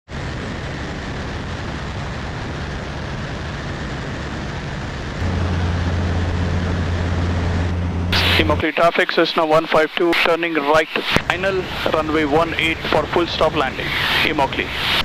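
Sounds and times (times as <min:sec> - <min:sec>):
light aircraft engine and propeller: 0:00.1 - 0:15.0
low hum: 0:00.1 - 0:15.0.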